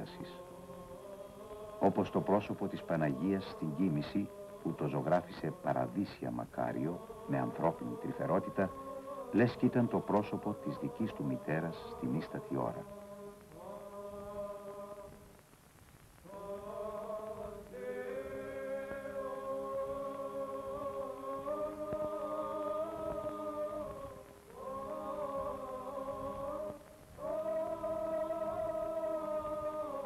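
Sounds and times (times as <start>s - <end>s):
male choir chanting: 0.0s - 15.1s, 16.3s - 30.0s.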